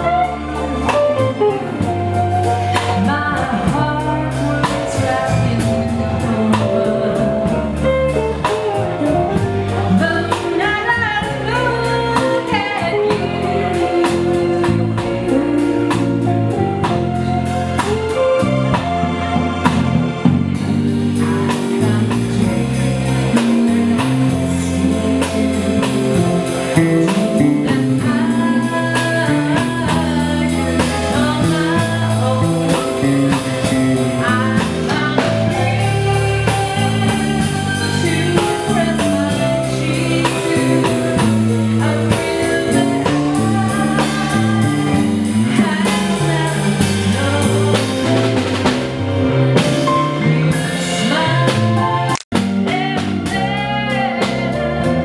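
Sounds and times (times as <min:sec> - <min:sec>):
woman singing: 0:00.0 - 0:19.8, 0:20.6 - 0:48.8, 0:49.6 - 0:55.0
live band playing: 0:00.0 - 0:55.0.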